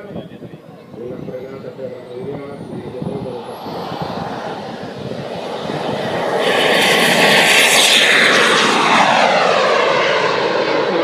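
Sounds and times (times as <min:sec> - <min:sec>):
model jet turbine engine: 0:00.0 - 0:11.0.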